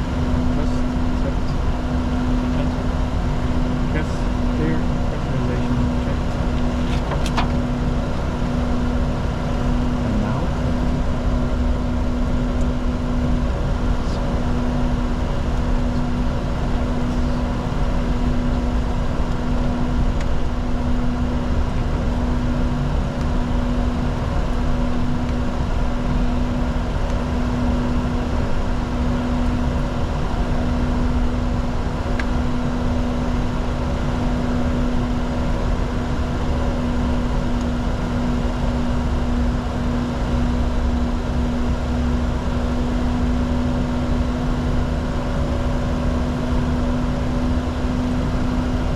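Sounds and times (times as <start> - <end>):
cockpit engine drone: 0.0 - 48.9.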